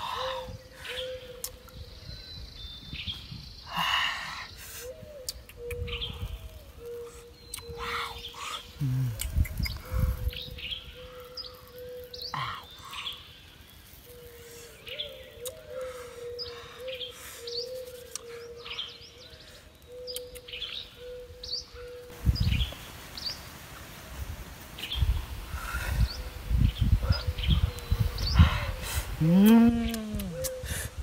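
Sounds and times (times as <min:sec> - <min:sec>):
birds chirping: 0:00.0 - 0:23.8, 0:24.7 - 0:31.0.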